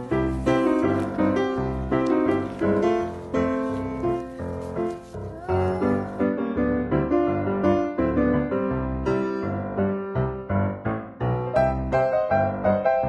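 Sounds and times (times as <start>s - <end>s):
piano-led background music: 0.0s - 13.0s.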